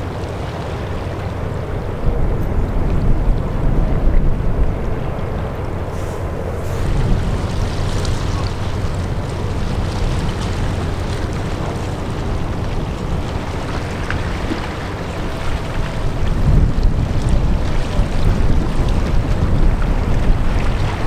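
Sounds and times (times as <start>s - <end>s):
low rumble of ship: 0.0s - 21.0s
wind buffeting microphone: 0.0s - 21.0s.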